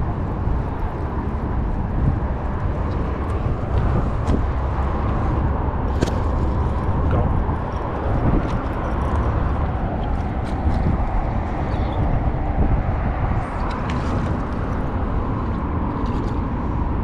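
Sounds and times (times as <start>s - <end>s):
low rumbling outdoor noise: 0.0s - 17.0s.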